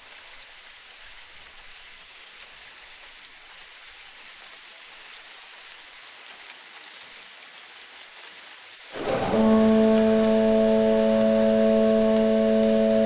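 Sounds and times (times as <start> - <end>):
hiss of water: 0.0 - 13.0.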